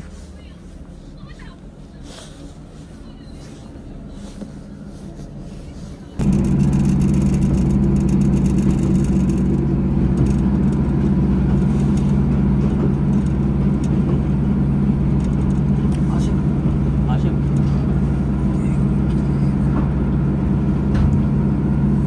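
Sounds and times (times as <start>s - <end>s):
rail rumble: 0.0s - 22.0s
train engine drone: 0.0s - 22.0s.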